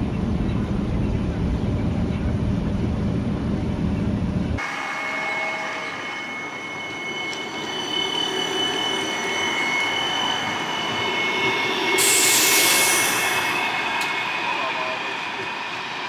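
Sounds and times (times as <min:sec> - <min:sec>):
streetcar whine and hum: 0:00.0 - 0:16.0.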